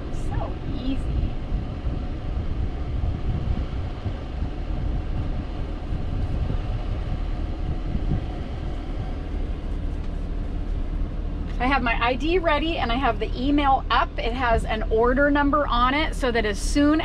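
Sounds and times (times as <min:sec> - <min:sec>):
road noise: 0:00.0 - 0:17.0
van engine rumble: 0:00.0 - 0:17.0.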